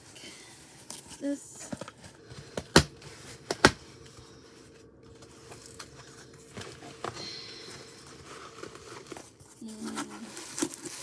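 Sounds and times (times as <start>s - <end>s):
packaging rustling and clicks: 1.7s - 11.0s.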